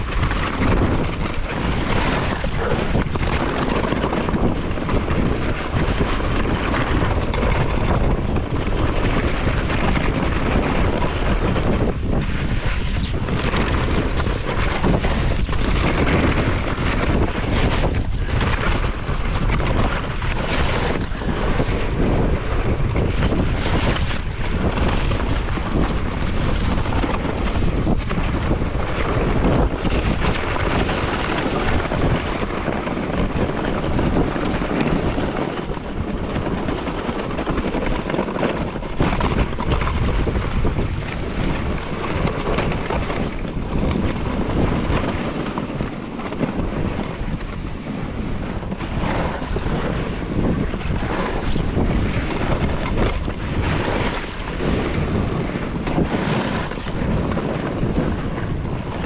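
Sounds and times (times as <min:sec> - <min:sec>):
snowboard scraping over snow: 0:00.0 - 0:59.0
wind buffeting microphone: 0:00.0 - 0:59.0.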